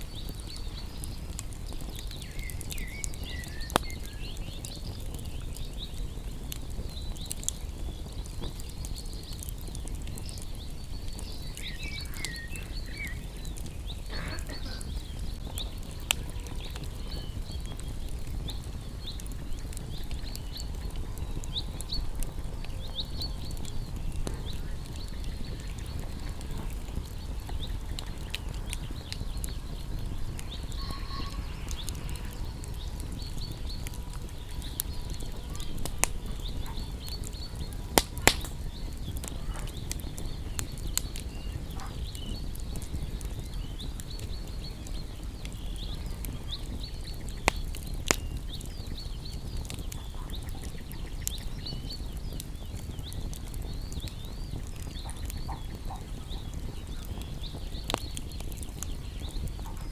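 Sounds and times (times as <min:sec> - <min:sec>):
bonfire crackling and popping: 0:00.0 - 0:59.9
low fire rumble: 0:00.0 - 0:59.9
small birds chirping: 0:00.0 - 0:59.9.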